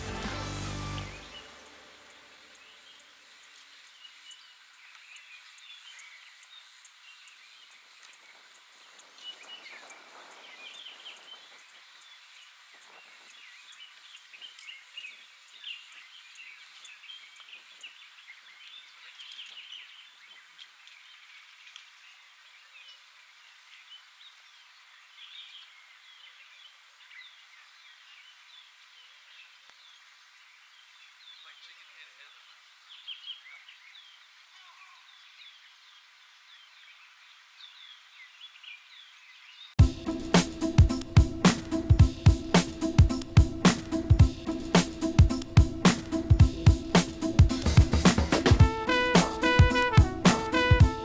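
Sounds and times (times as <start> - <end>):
outdoor ambience: 0.0 - 51.0
small birds chirping: 0.0 - 51.0.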